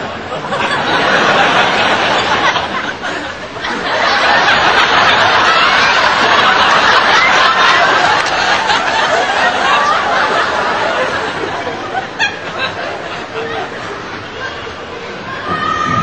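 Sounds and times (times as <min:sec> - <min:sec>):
audience laughing: 0:00.0 - 0:15.3.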